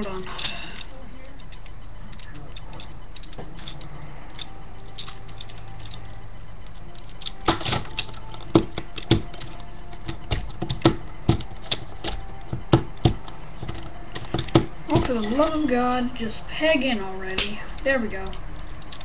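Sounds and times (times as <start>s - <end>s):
plastic toy parts clicking: 0.0s - 16.2s, 17.2s - 19.0s.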